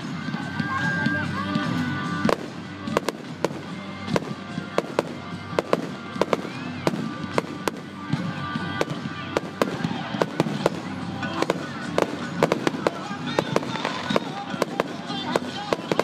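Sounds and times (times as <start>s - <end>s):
fireworks bangs and pops: 1.5s - 16.0s.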